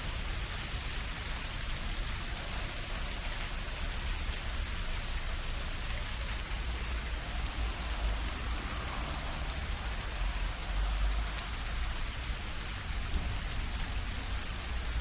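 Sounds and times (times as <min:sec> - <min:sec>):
heavy drips from leaves: 0:00.0 - 0:15.0
steady rain falling: 0:00.0 - 0:15.0.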